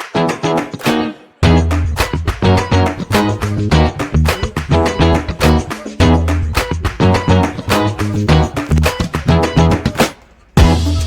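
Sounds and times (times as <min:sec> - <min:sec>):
upbeat guitar music: 0:00.0 - 0:11.0.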